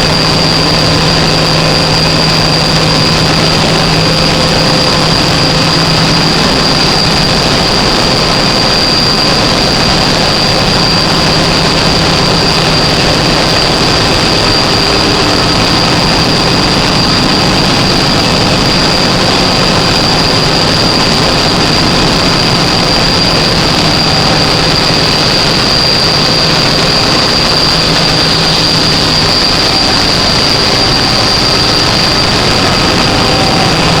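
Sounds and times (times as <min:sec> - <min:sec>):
generator engine running: 0:00.0 - 0:34.0
high-pitched whine: 0:00.0 - 0:34.0.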